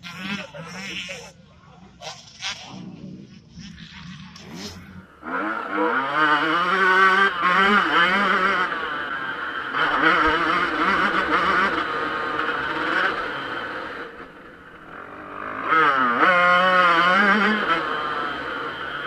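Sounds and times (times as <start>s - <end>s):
motocross bike engine revving: 0.0s - 1.3s, 2.0s - 19.0s.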